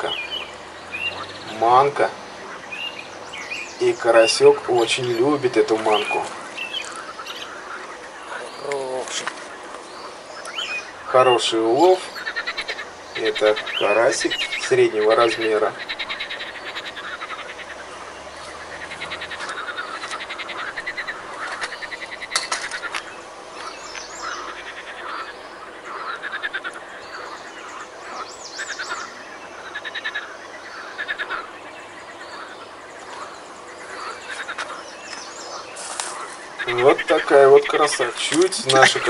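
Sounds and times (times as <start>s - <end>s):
birds singing: 0.0s - 39.0s
frogs croaking: 0.0s - 39.0s.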